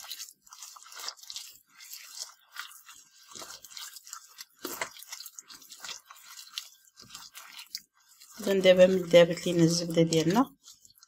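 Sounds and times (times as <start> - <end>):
sugar crunching and scraping in dish: 0.0 - 11.0.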